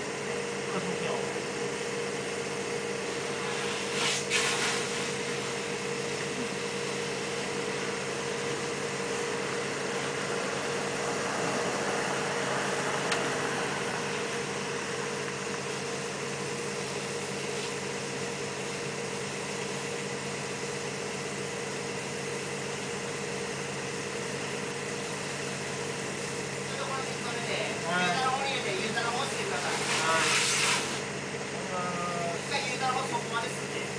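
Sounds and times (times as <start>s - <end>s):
machinery droning: 0.0s - 33.9s.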